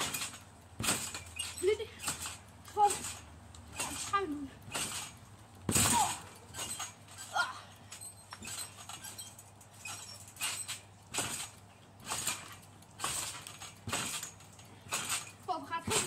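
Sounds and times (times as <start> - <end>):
trampoline landing whoosh: 0.0 - 16.0.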